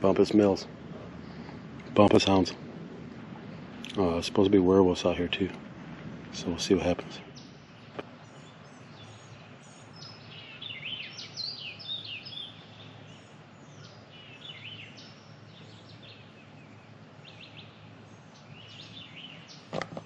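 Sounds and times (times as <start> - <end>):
birds chirping: 0.0 - 20.0
faint steady background noise: 0.0 - 20.0.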